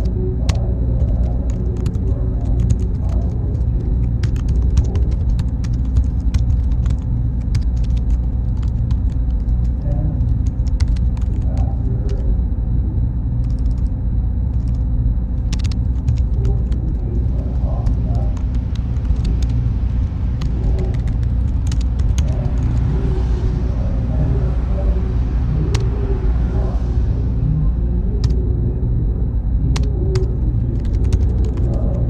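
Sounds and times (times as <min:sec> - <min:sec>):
faint high whine: 0:00.0 - 0:32.0
low rumble of cooling fans: 0:00.0 - 0:32.0.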